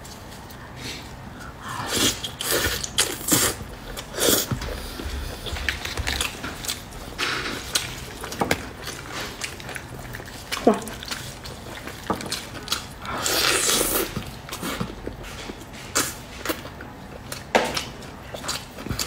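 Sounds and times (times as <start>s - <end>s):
wet biting and chewing: 1.8s - 19.0s.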